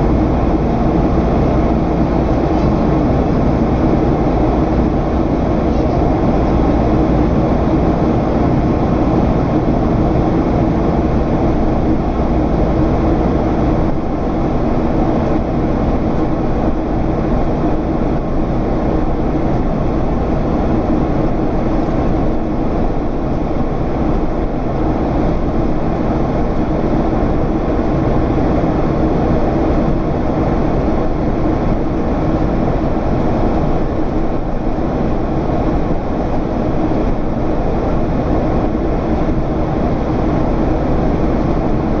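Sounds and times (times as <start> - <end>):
jet engine cabin drone: 0.0 - 42.0.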